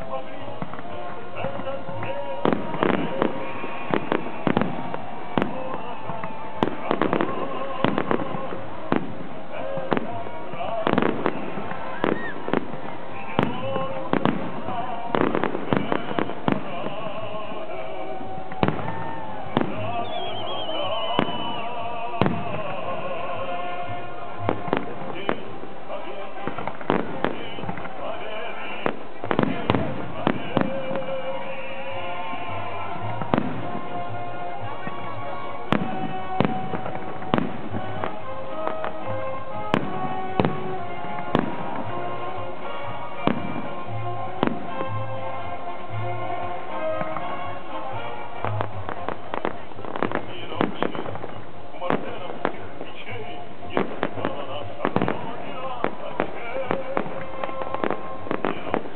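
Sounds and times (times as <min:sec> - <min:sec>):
firework bangs: 0:00.0 - 0:58.9
music playing: 0:00.0 - 0:58.9.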